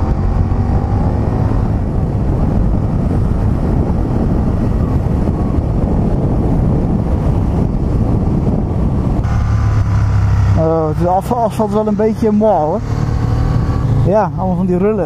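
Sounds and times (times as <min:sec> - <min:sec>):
motorcycle engine rumble: 0:00.0 - 0:15.0
wind noise on microphone: 0:00.0 - 0:15.0.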